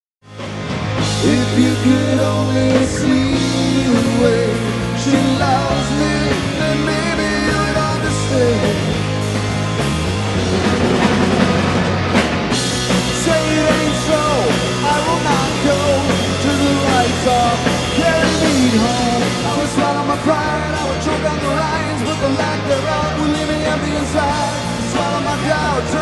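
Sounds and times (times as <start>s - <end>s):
drum kit: 0.2s - 26.0s
electric bass: 0.2s - 26.0s
male lead singer: 1.0s - 9.8s, 12.5s - 26.0s.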